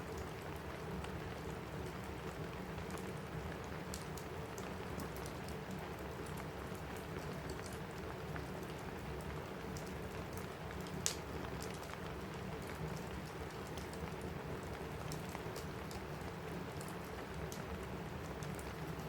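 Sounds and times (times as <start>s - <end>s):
rain on a roof: 0.0s - 19.0s
fireplace crackling: 3.3s - 19.0s.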